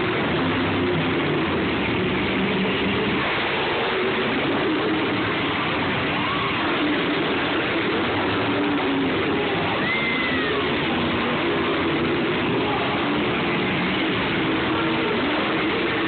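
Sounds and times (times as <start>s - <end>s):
crowd noise: 0.0s - 16.0s
monster truck engine running: 0.0s - 16.0s.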